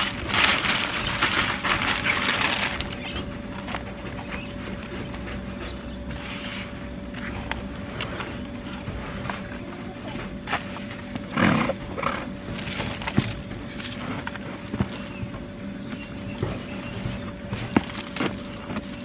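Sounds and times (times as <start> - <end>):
compost rustling: 0.0 - 19.0.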